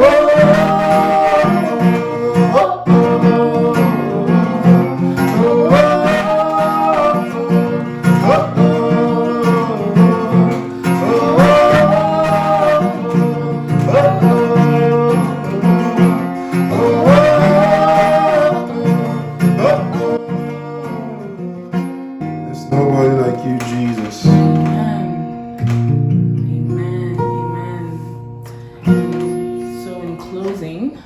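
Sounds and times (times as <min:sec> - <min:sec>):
person singing wordless melody: 0:00.0 - 0:25.7, 0:26.4 - 0:30.0
guitar strumming: 0:00.0 - 0:31.0.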